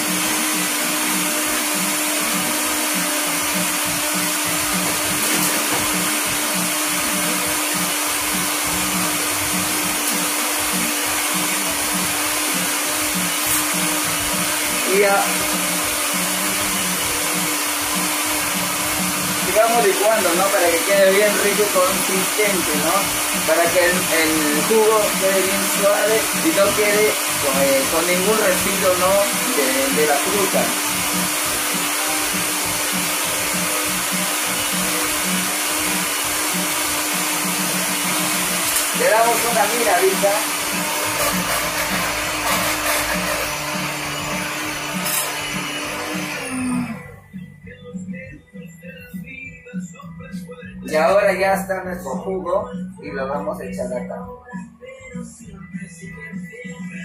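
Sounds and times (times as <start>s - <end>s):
blender whirring: 0.0s - 47.4s.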